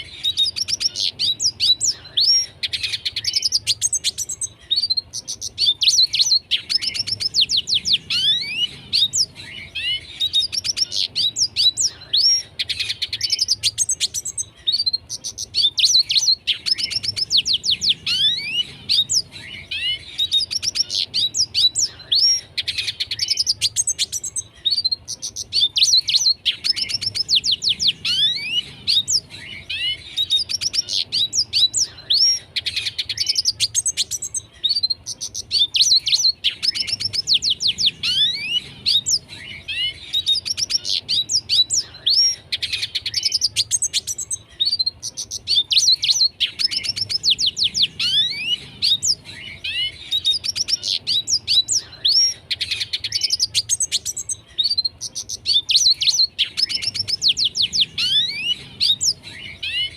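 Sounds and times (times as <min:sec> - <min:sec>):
finch twittering song: 0:00.0 - 0:59.9.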